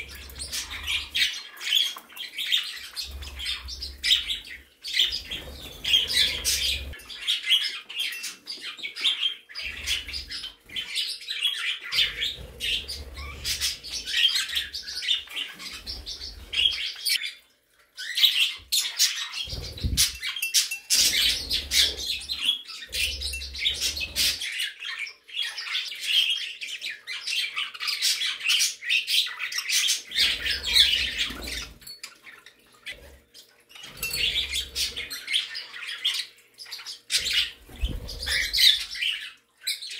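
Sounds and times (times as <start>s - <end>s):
small parrots chirping and chattering: 0.0s - 39.9s.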